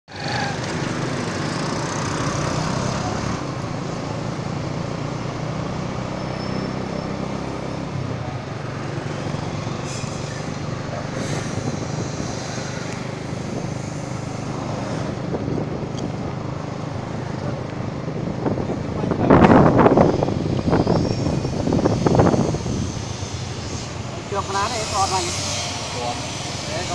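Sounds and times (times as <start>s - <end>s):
road noise: 0.0s - 26.9s
motorbikes and cars passing: 0.1s - 26.9s
vehicle engine drone: 0.1s - 26.9s.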